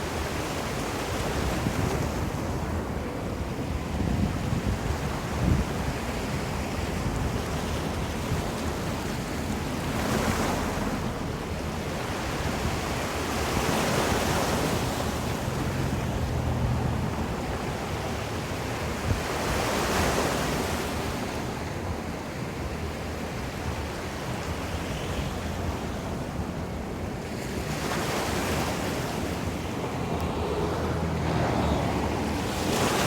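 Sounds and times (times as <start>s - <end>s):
wind rumbling on microphone: 0.0s - 19.7s, 25.0s - 33.0s
waves breaking on shore: 0.0s - 33.0s.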